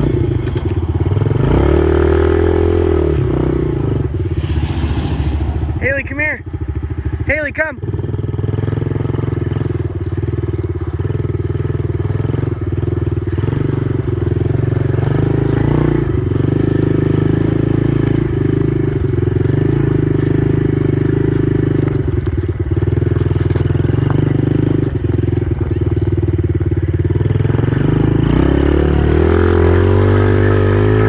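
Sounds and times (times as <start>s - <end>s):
engine running loudly: 0.0s - 31.0s.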